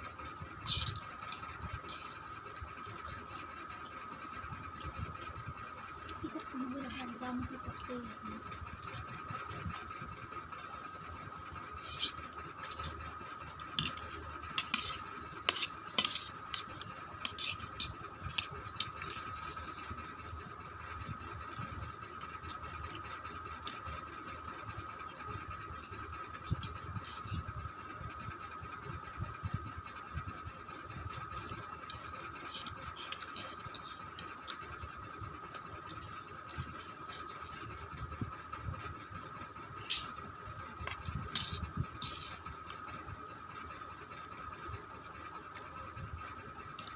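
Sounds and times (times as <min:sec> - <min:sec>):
steady high-pitched hum: 0:00.0 - 0:46.9.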